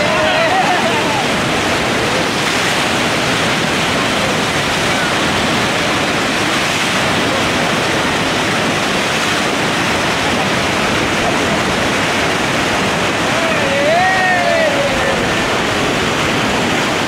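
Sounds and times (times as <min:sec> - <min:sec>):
whitewater rushing: 0:00.0 - 0:17.0.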